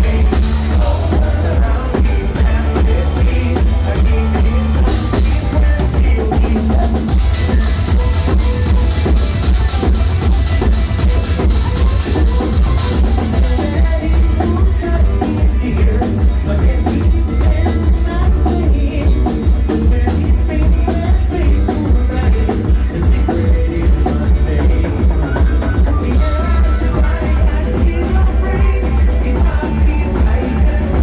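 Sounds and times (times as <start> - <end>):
booming bass: 0.0 - 31.0
drum kit beat: 0.0 - 31.0
live rock band playing: 0.0 - 31.0.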